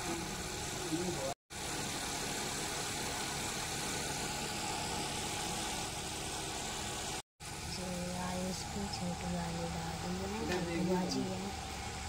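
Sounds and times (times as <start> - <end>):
machine drone with hiss: 0.0 - 12.0.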